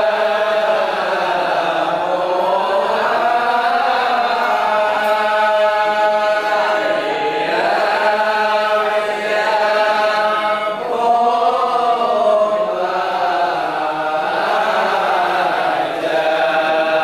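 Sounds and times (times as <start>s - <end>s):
men chanting in unison: 0.0s - 17.0s.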